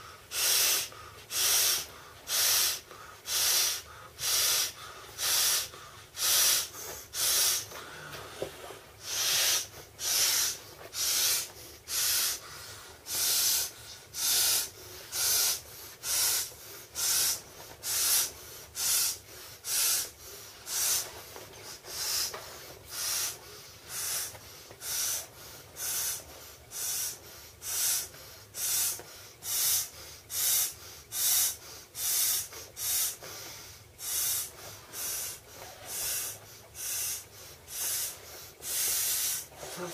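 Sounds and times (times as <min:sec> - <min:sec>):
breathy puffs blown into valve: 0:00.0 - 0:39.9.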